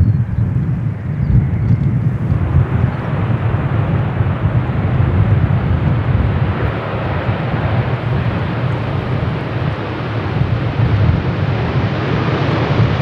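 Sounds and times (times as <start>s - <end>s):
jet engine low rumble: 0.0s - 13.0s.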